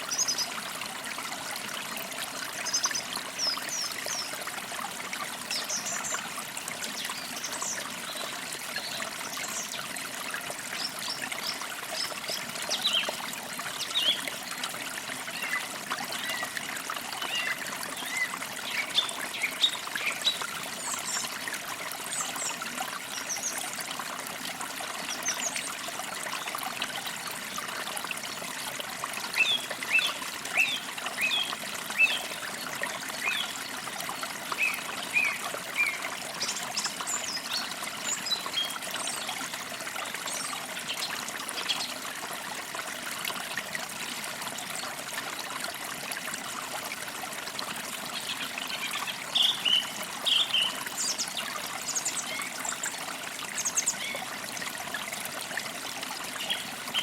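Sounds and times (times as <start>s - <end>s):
creek water trickling over stones: 0.0s - 57.0s.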